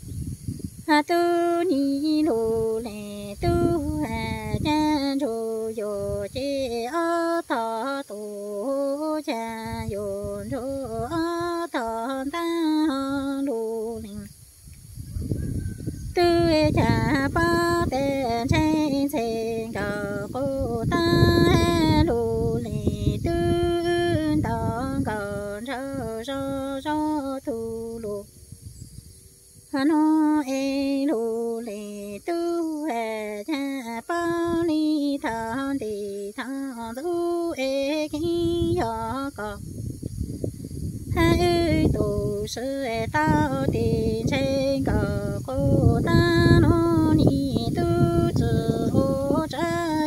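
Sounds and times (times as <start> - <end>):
woman singing unaccompanied: 0.0 - 15.0, 15.8 - 50.0.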